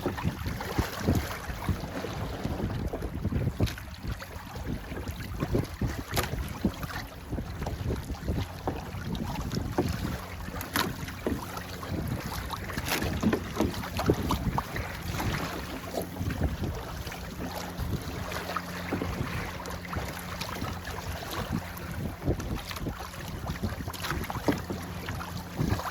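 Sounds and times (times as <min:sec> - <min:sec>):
water splashing against hull: 0:00.0 - 0:25.9
wind buffeting microphone: 0:00.0 - 0:25.9.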